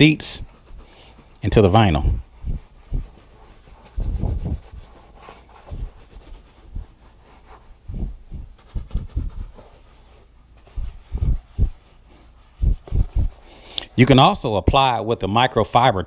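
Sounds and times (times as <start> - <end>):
sponge scrubbing leather: 0.0 - 14.2.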